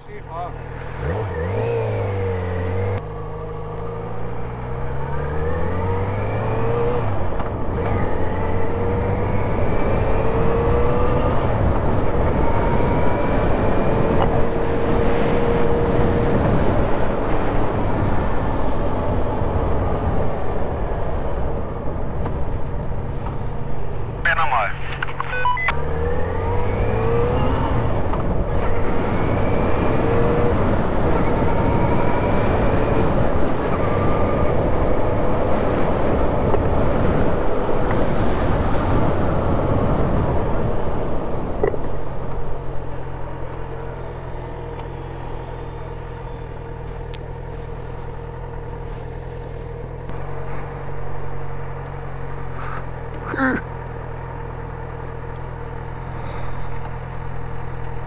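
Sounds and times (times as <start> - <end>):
motorcycle engine revving: 0.0 - 20.3, 25.7 - 58.0.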